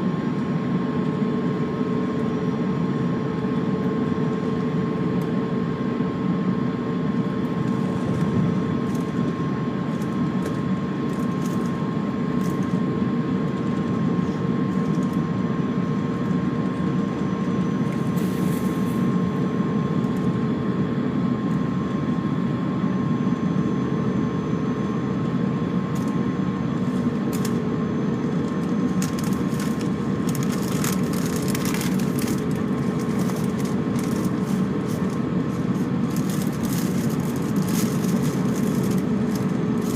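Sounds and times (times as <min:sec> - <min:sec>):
airplane engine drone: 0:00.0 - 0:39.9
steady hums: 0:00.0 - 0:39.9.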